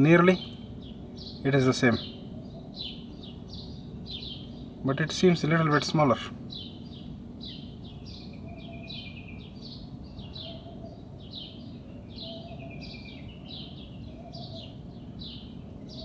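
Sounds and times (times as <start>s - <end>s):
birds chirping: 0.0s - 16.0s
low outdoor hum: 0.0s - 16.0s.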